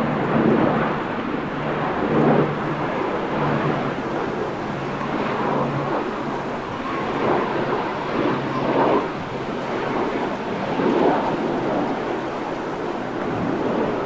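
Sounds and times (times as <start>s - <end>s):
turboprop engines droning: 0.0s - 14.0s
wind buffeting microphone: 0.0s - 14.0s.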